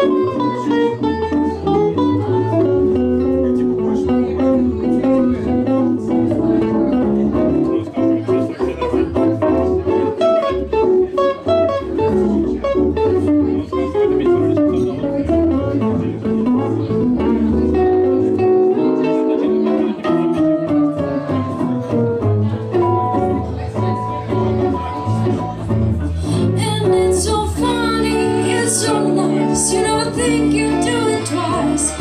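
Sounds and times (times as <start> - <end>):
bass line: 0.0 - 32.0
guitar: 0.0 - 32.0.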